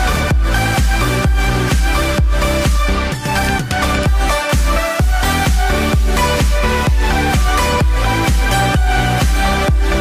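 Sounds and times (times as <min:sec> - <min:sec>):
electronic dance music: 0:00.0 - 0:10.0
kick drum beat: 0:00.0 - 0:10.0.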